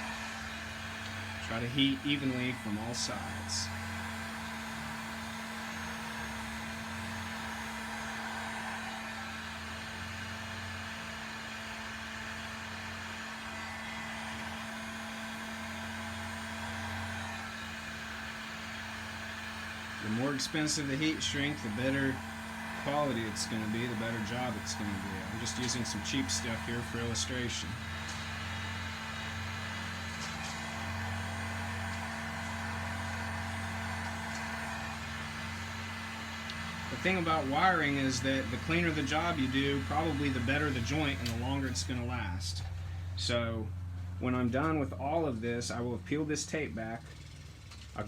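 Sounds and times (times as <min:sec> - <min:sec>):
heat gun fan humming: 0:00.0 - 0:48.0.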